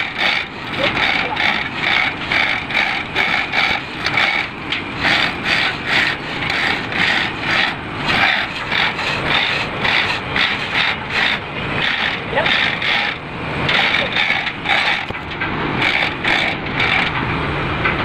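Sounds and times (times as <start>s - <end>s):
hand chain rattling and scraping: 0.0s - 17.2s.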